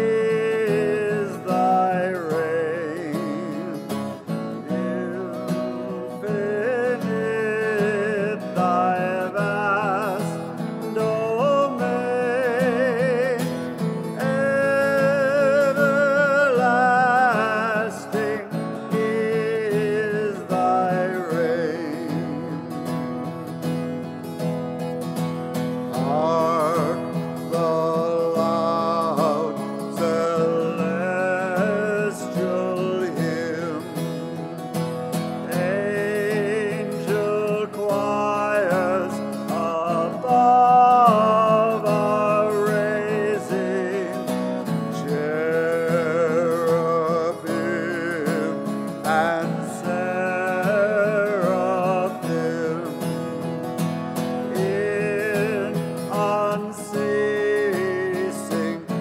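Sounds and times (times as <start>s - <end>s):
person singing a hymn: 0.0s - 23.5s, 25.9s - 34.6s, 35.4s - 59.0s.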